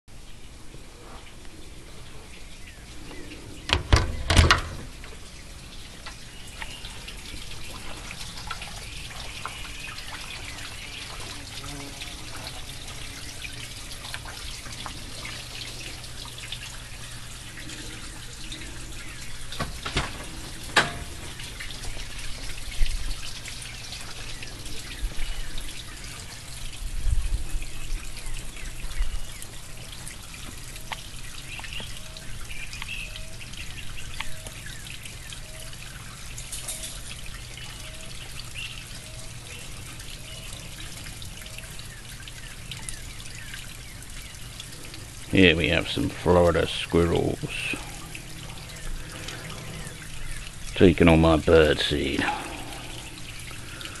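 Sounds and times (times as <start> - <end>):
water trickling into pond: 0.1 - 54.0.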